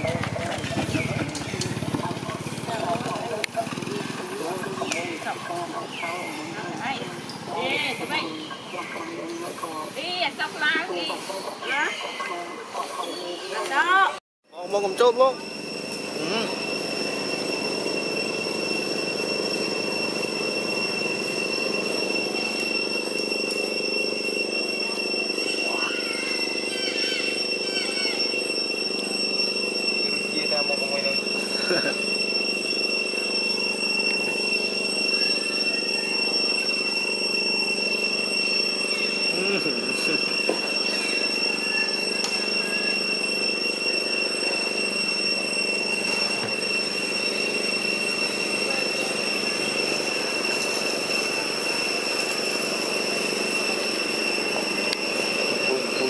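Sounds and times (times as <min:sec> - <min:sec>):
cicadas droning: 0:00.0 - 0:56.0
high-pitched whine: 0:00.0 - 0:56.0.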